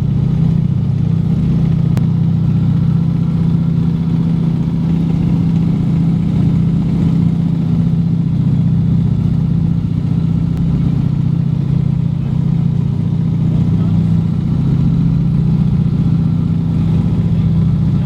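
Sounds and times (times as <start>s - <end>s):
aircraft engines droning: 0.0s - 18.0s.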